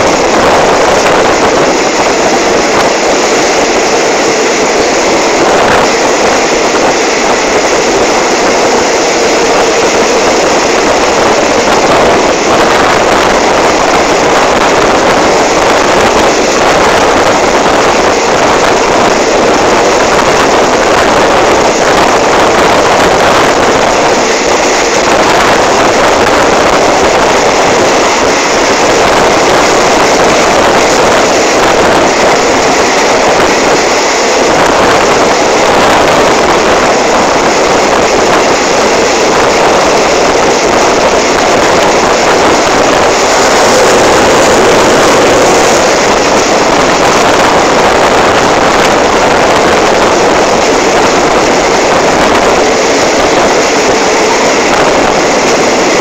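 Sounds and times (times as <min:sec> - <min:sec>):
train wheel and track noise: 0:00.0 - 0:56.0
wind rushing past microphone: 0:00.0 - 0:56.0.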